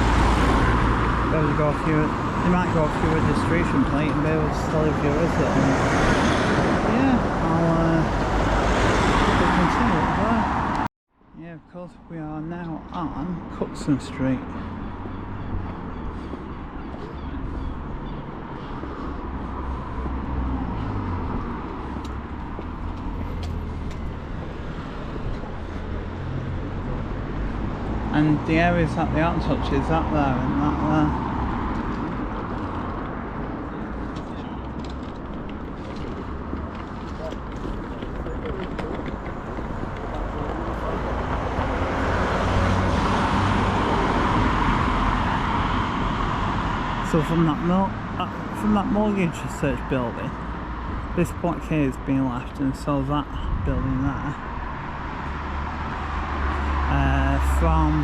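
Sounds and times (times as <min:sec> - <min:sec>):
low rumble of cars: 0:00.0 - 0:58.0.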